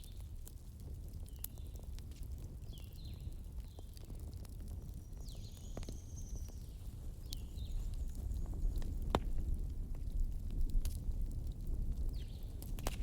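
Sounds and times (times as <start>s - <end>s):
campfire wood crackling: 0.0s - 13.0s.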